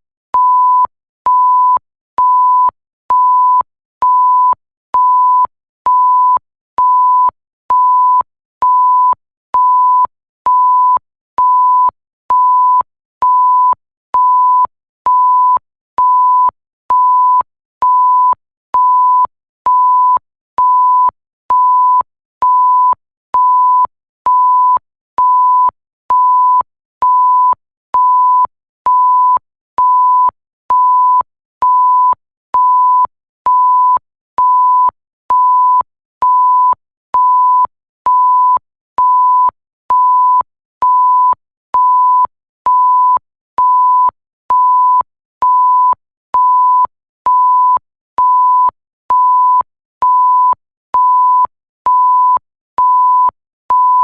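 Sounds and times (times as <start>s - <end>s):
sine-tone beeps: 0.4s - 54.0s.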